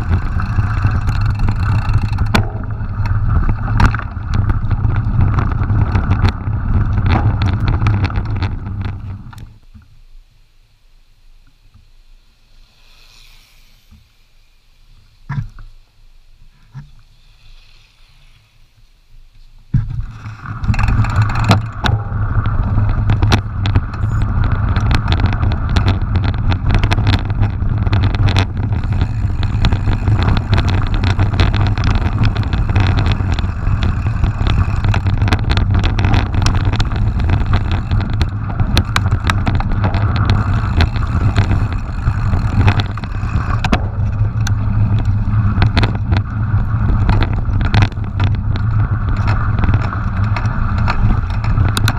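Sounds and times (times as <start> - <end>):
bike rattling clicks and knocks: 0.0 - 9.6, 19.7 - 51.9
wind and tyre rumble: 0.0 - 10.3, 18.2 - 51.9.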